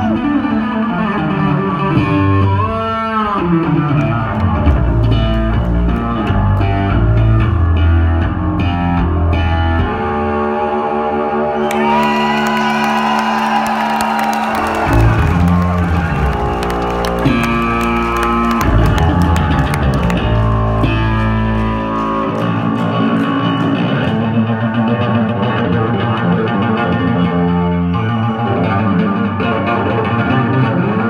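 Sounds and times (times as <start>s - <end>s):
electric bass playing: 0.0s - 10.4s, 14.2s - 31.0s.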